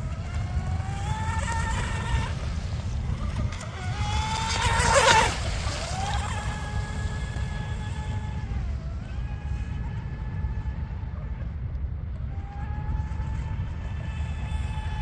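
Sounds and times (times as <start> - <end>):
toy speedboat motor whine: 0.0 - 11.4, 12.3 - 15.0
wind rumble on microphone: 0.0 - 15.0.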